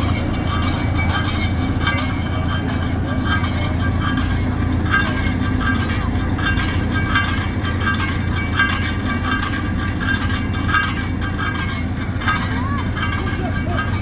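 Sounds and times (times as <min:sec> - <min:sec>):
metallic clanks and rattles: 0:00.0 - 0:14.0
paving machinery diesel drone: 0:00.0 - 0:14.0.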